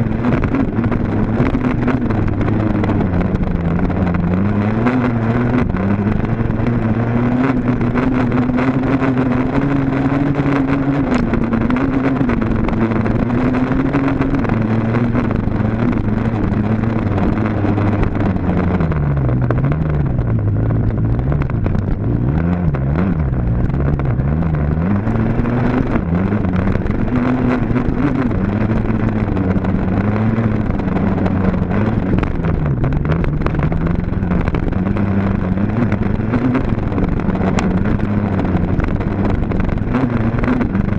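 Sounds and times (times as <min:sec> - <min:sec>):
dirt bike engine revving: 0:00.0 - 0:20.6, 0:21.2 - 0:40.9.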